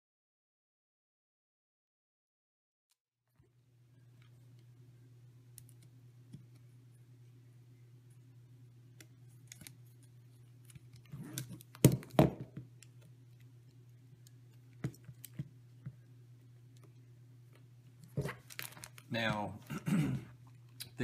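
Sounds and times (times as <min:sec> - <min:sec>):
steady low hum: 0:03.4 - 0:21.0.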